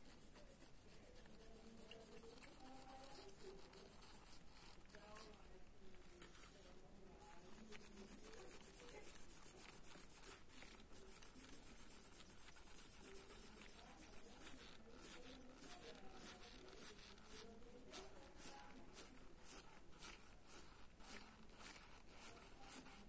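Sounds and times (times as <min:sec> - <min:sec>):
pencil scratching on paper: 0:00.0 - 0:23.0.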